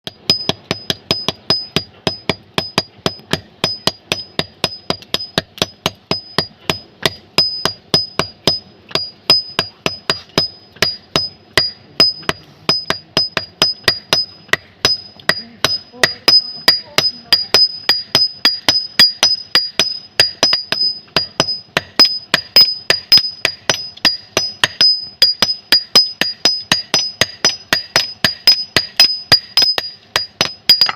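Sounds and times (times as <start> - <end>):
hammer striking an anvil: 0.1 - 30.9.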